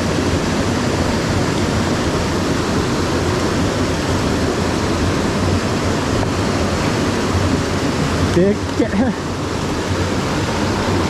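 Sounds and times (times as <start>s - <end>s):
fast-flowing stream water: 0.0s - 11.0s.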